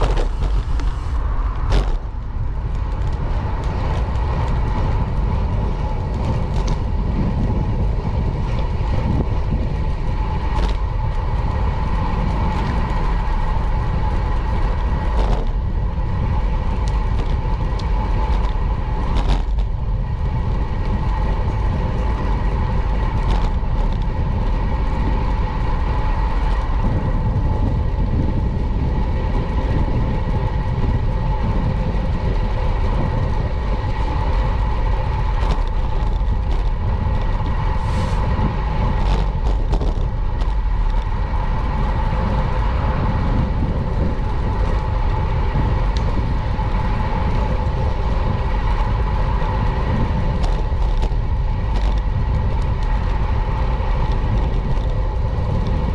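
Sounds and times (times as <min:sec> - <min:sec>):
constant hum: 0:00.0 - 0:55.9
wind and road rumble: 0:00.0 - 0:55.9.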